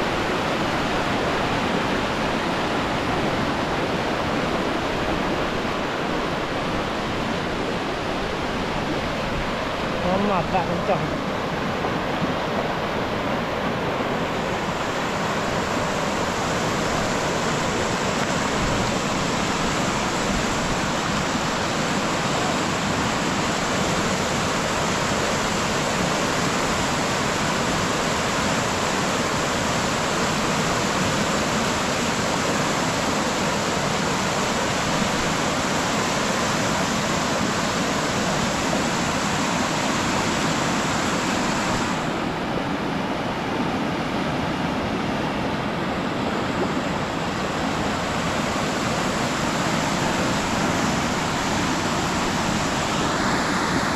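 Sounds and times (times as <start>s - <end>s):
floodwater rushing: 0.0s - 53.9s.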